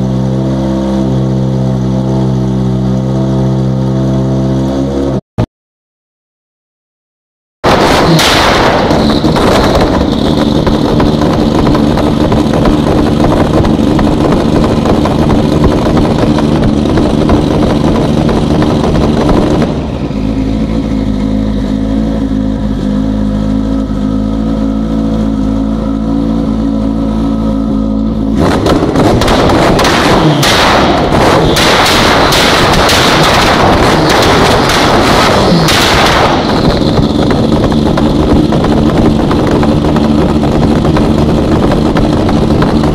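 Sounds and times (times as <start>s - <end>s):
engine exhaust crackling and popping: 7.7s - 42.9s.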